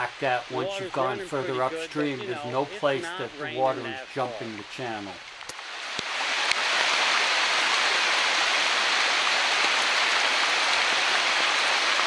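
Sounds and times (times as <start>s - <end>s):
whitewater rushing through channel: 0.0s - 12.0s.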